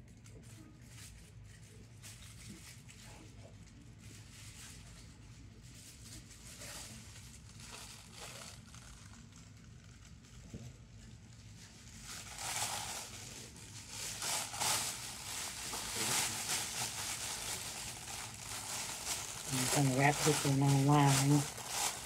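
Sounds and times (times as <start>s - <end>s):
wrapping material crinkling: 0.0s - 22.0s.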